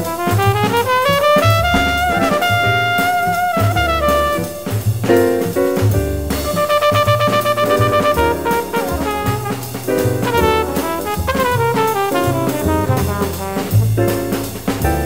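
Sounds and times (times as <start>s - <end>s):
jazz music with brass: 0.0s - 15.0s.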